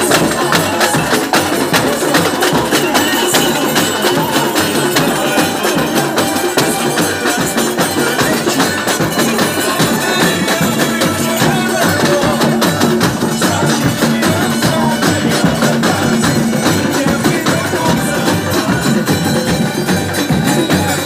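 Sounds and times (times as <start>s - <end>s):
drums beating: 0.0s - 21.0s
street band playing: 0.0s - 21.0s
tambourine: 0.0s - 21.0s.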